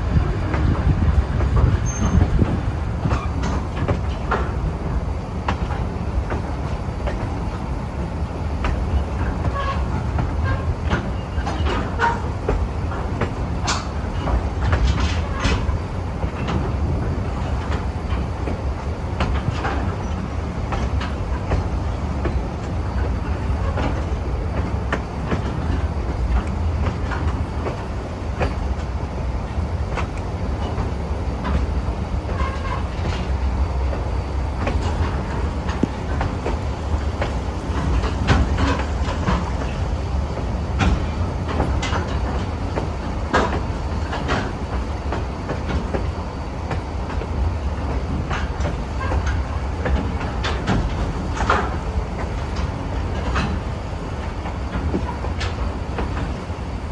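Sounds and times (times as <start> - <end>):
wheels clicking and knocking: 0.0 - 4.8, 5.4 - 56.9
railroad car rolling on track: 0.0 - 56.9.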